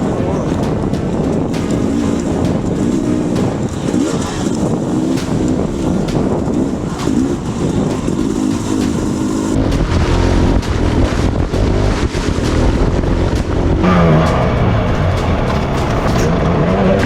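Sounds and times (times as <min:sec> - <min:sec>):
bike knocks and clatter: 0:00.0 - 0:17.0
dirt bike engine revving: 0:00.0 - 0:17.0.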